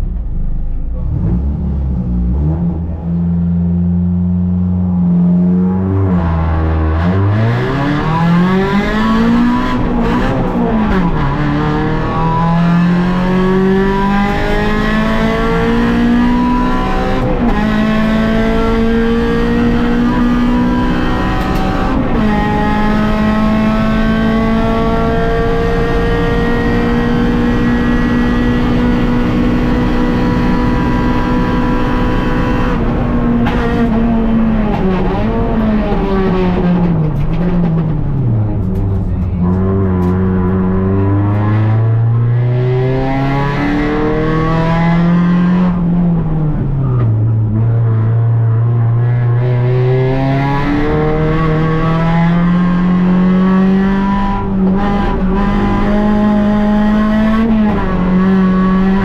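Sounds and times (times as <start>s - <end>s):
rally car engine accelerating: 0.0s - 59.0s.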